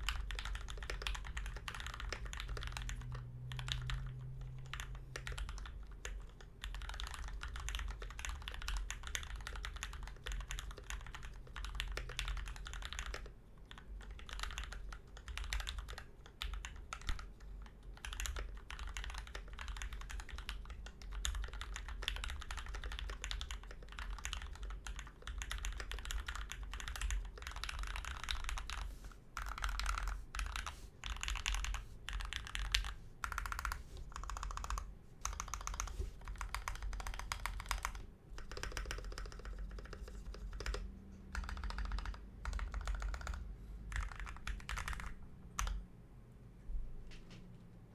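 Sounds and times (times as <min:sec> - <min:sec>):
mechanical keyboard typing: 0:00.0 - 0:45.8.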